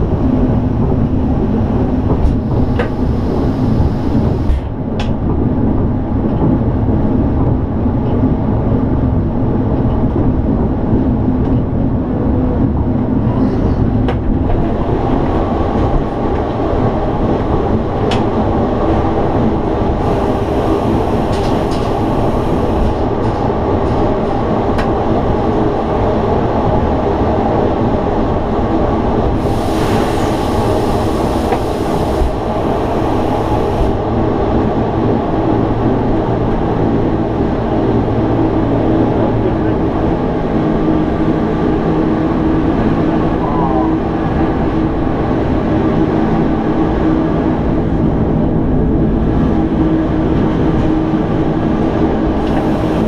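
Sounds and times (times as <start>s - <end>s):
train running drone: 0.0s - 53.0s.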